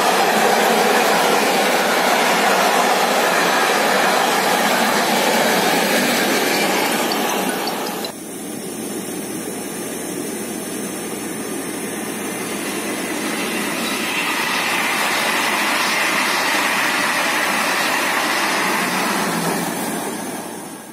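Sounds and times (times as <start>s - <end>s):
train coaches rumbling on rails: 0.0s - 8.2s, 10.8s - 20.9s
electric locomotive hum: 0.0s - 20.9s.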